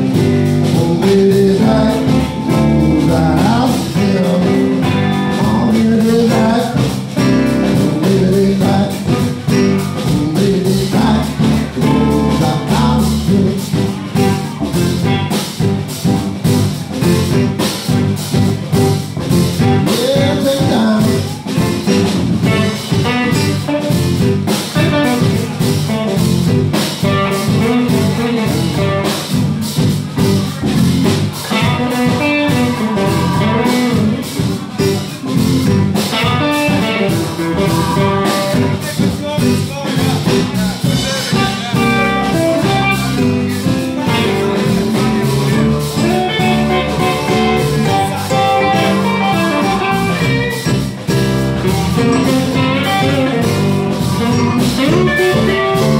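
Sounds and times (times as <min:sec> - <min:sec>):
man singing: 0:00.0 - 0:15.3, 0:19.3 - 0:29.9, 0:31.4 - 0:50.9, 0:51.9 - 0:55.9
blues-rock band playing: 0:00.0 - 0:55.9.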